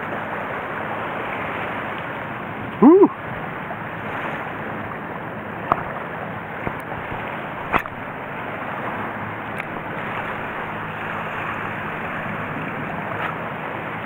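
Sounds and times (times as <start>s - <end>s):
sea water lapping over reef: 0.0s - 14.0s.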